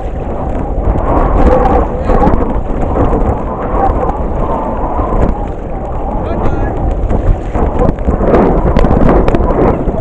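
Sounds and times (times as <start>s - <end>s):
rain and water: 0.0s - 10.0s
wind buffeting the microphone: 0.0s - 10.0s.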